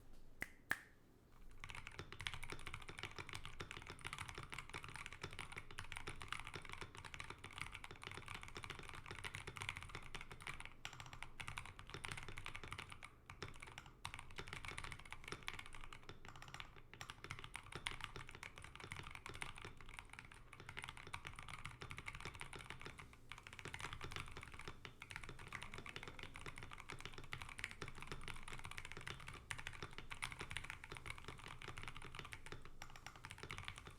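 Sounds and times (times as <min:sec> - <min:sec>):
typing on mechanical keyboard: 0:01.6 - 0:33.9.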